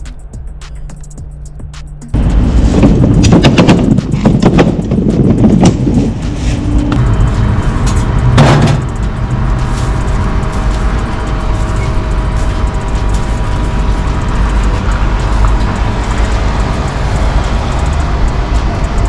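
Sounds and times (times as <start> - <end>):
metal trolley rattling: 2.2 - 19.0.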